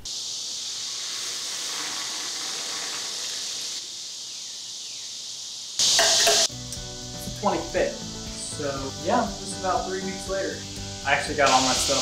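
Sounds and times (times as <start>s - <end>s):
cicadas chorusing: 0.0s - 12.0s.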